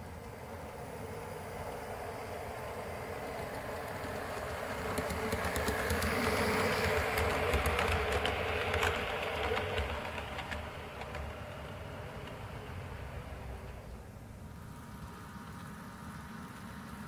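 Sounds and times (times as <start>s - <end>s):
model train motor hum: 0.0s - 17.0s
rumble of wheels: 0.0s - 17.0s
wheels clicking over rail joints: 0.0s - 17.0s.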